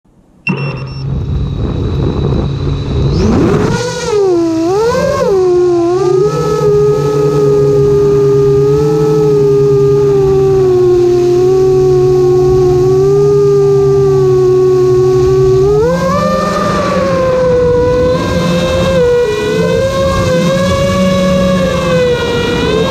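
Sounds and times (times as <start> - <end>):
electric motor and propeller whine: 0.5 - 22.9
wind noise on microphone: 0.8 - 22.9.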